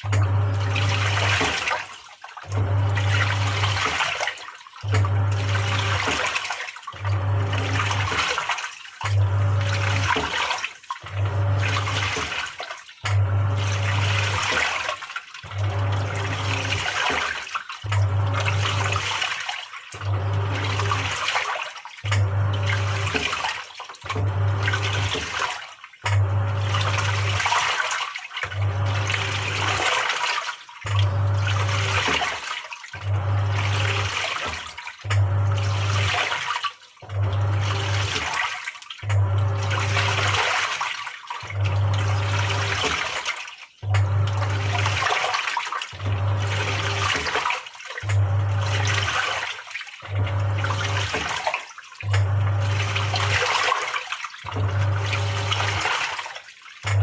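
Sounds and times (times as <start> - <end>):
washing machine agitating: 0.0 - 57.0
water churning: 0.0 - 57.0.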